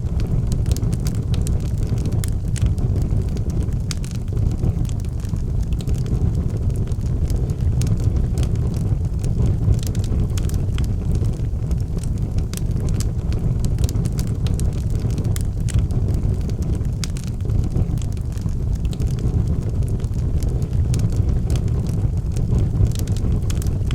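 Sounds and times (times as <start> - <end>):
fire rumbling: 0.0 - 23.9
logs crackling and popping: 0.0 - 23.9.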